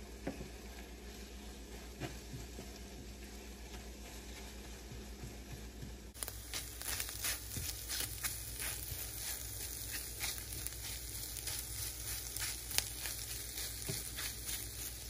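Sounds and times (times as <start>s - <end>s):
food sizzling in a pan: 0.0s - 15.0s
frying pops and crackles: 0.0s - 15.0s.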